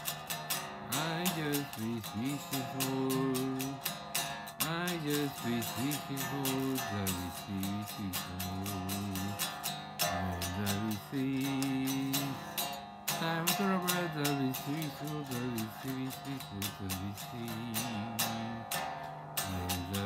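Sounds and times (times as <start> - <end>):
electric guitar strumming: 0.0 - 20.0.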